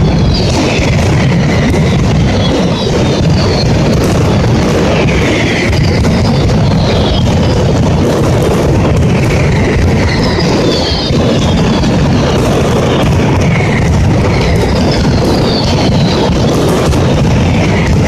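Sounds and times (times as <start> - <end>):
falling whistles: 0.0 - 8.4, 9.4 - 13.1, 14.1 - 17.0
firecrackers banging and crackling: 0.0 - 18.0
low rumble: 0.0 - 18.0.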